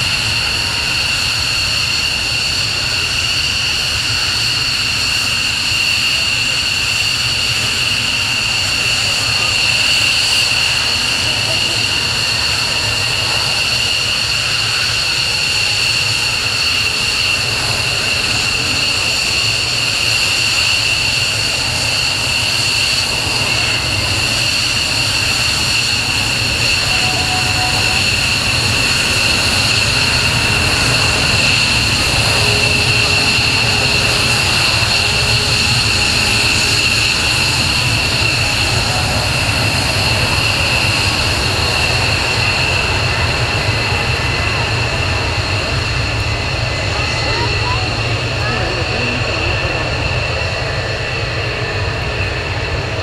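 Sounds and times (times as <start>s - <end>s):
high-pitched engine whine: 0.0s - 53.0s
jet engines roaring: 0.0s - 53.0s.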